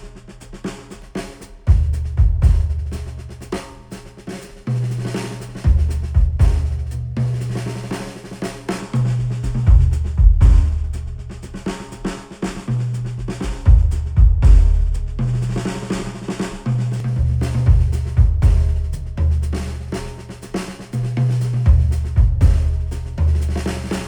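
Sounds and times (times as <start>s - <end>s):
instrumental music with drums and bass: 0.0s - 24.0s.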